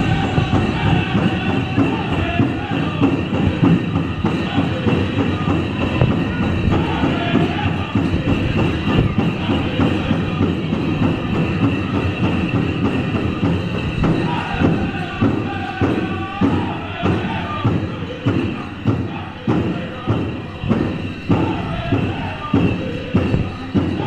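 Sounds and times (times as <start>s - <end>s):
drum steady beat: 0.0s - 24.0s
men singing: 0.0s - 24.0s.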